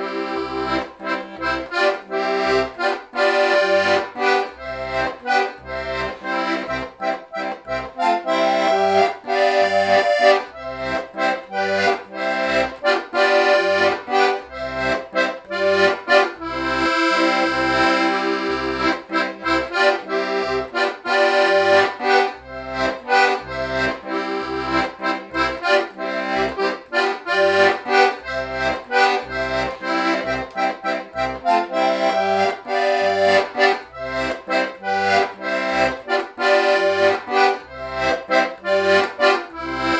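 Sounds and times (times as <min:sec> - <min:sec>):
button accordion playing folk tune: 0:00.0 - 0:39.9.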